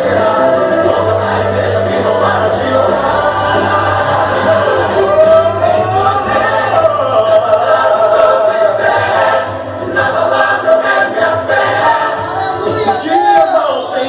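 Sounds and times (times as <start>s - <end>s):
choir singing held notes: 0.0s - 14.0s
gospel song backing track: 0.0s - 14.0s.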